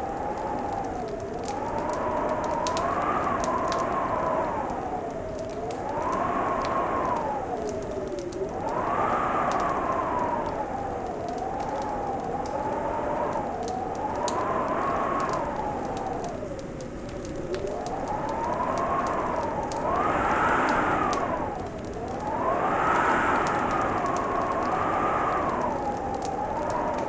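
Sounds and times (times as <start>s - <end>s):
fireplace crackling: 0.0s - 27.0s
whistling wind: 0.0s - 27.0s.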